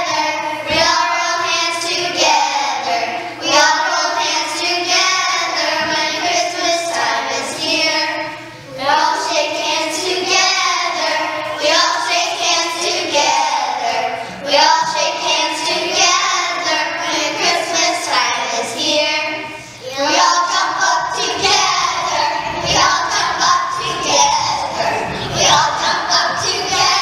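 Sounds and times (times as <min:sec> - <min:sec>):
children singing: 0:00.0 - 0:27.0.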